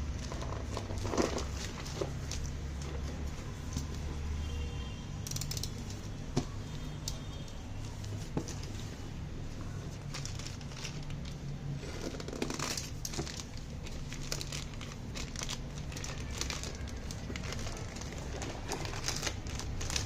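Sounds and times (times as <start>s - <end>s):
packaging crinkling and rustling: 0.0s - 4.4s, 7.9s - 20.0s.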